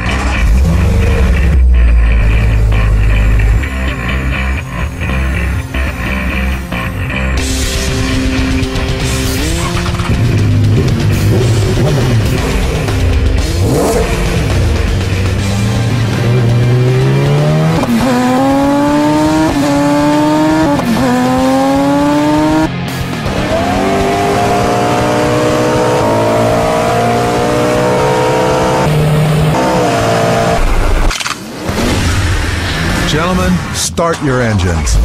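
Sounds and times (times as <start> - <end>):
high-revving engine accelerating: 0.0 - 31.1.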